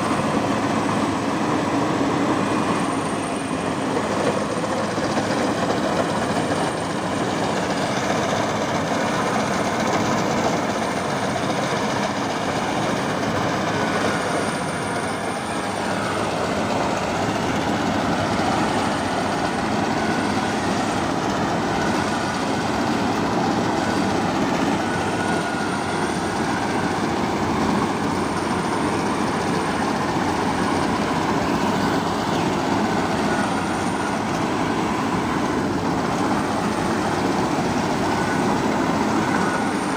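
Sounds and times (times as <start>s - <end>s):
farm machinery running: 0.0s - 39.9s.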